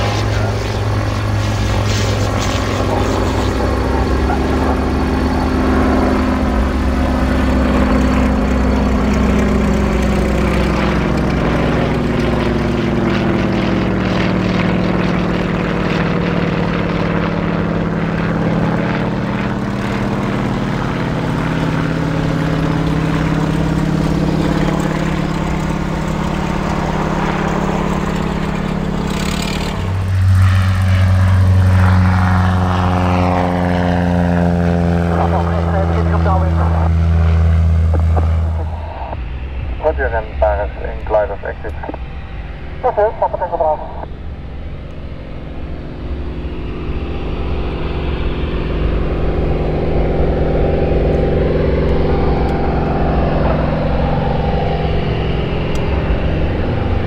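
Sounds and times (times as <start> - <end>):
low propeller plane passing: 0.0 - 57.0
propeller plane flying overhead: 0.0 - 57.0.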